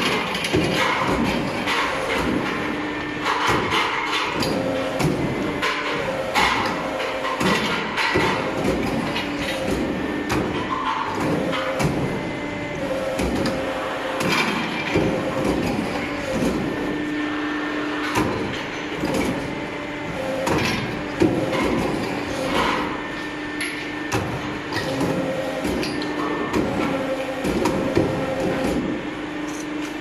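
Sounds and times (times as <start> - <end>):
tube bending machine drives whining: 0.0 - 30.0.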